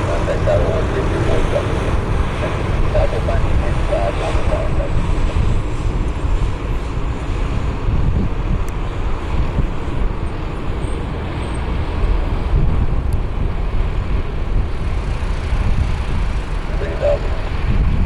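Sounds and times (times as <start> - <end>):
jet engines rumbling: 0.0 - 18.0
wind buffeting microphone: 0.0 - 18.0.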